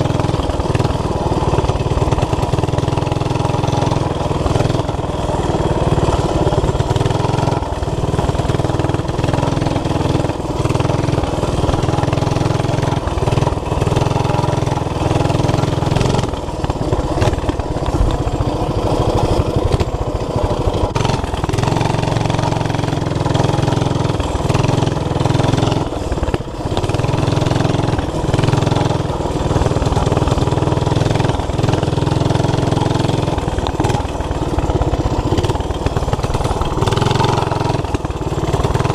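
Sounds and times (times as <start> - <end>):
single-cylinder engine revving: 0.0 - 38.9.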